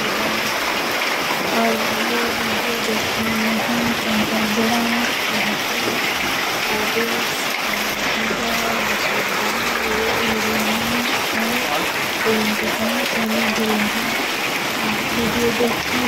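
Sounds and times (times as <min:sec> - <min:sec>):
heavy rain pouring: 0:00.0 - 0:16.0
rainwater running across street: 0:00.0 - 0:16.0.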